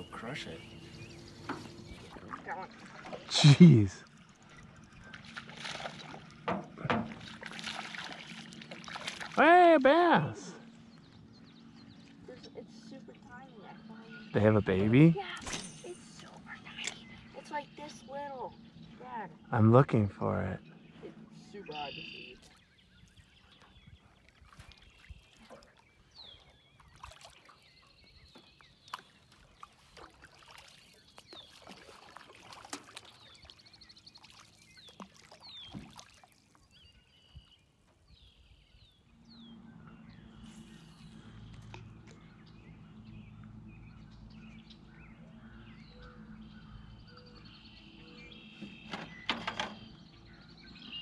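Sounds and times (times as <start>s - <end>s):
water trickling around hull: 0.0s - 9.6s, 10.6s - 19.8s, 20.6s - 51.0s.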